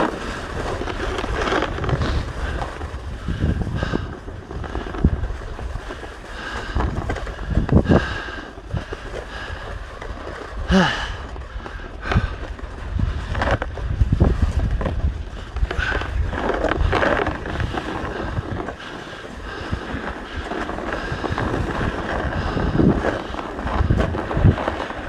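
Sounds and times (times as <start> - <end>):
ski edges scraping icy snow: 0.0 - 25.0
wind buffeting microphone: 0.0 - 25.0.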